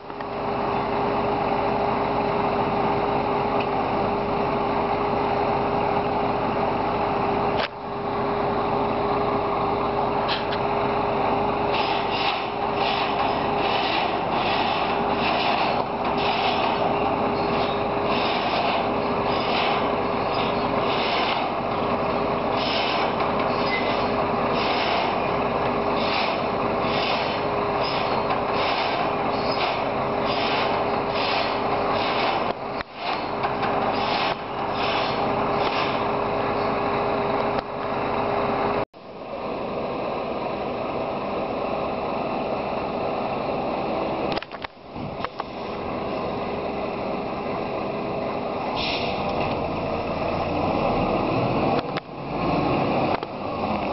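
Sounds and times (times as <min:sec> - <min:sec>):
dull steady roar: 0:00.0 - 0:53.9
machinery roaring: 0:00.0 - 0:53.9.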